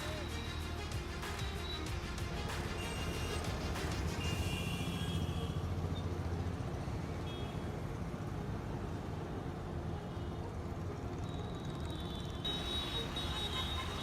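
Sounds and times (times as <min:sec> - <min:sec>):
road noise from a moving car: 0:00.0 - 0:14.0.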